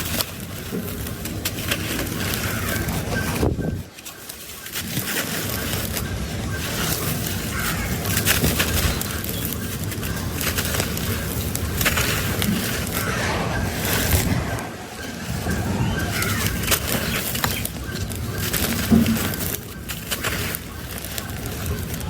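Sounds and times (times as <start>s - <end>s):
cement chunks crunching: 0.0s - 14.6s, 15.2s - 22.0s.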